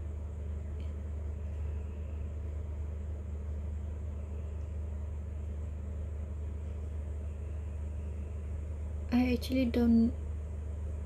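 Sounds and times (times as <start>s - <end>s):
faint room noise hiss: 0.0s - 11.0s
steady low hum: 0.0s - 11.0s.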